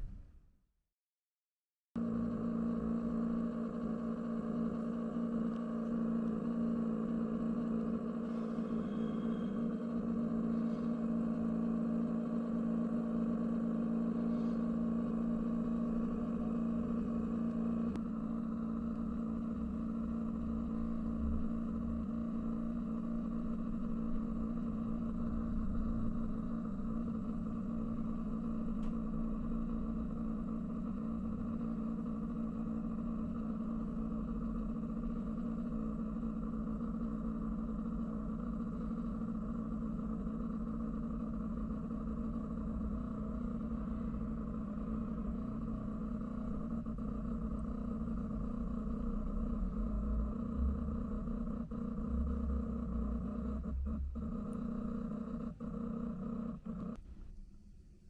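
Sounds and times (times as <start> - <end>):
electric pump hum: 2.0 - 58.0.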